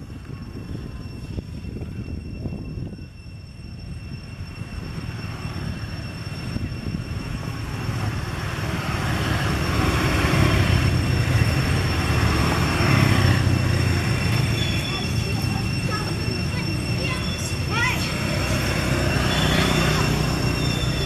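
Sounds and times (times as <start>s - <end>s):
high-pitched tones: 0.0s - 21.0s.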